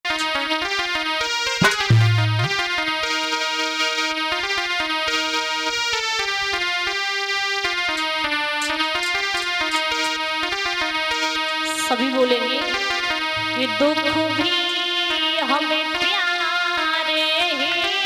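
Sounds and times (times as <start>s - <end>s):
electronic keyboard melody: 0.1s - 18.0s.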